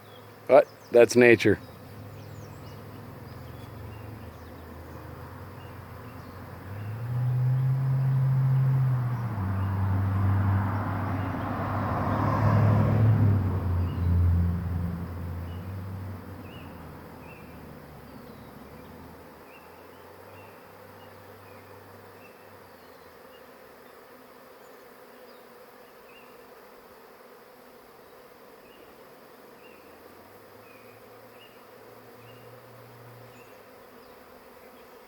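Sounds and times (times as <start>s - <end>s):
bee swarm buzzing: 0.0s - 35.0s.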